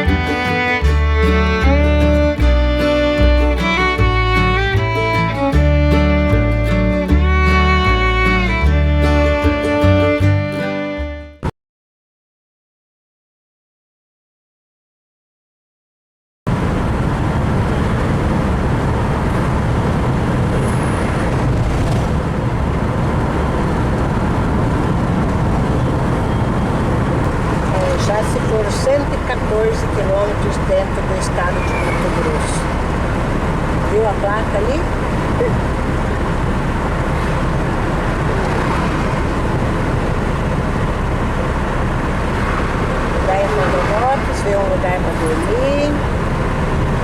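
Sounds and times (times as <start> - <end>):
car engine and road noise: 0.0 - 11.5, 16.5 - 47.0.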